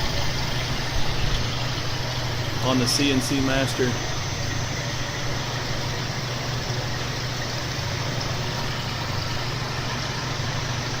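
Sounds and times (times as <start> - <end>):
milling machine spindle hum: 0.0 - 11.0.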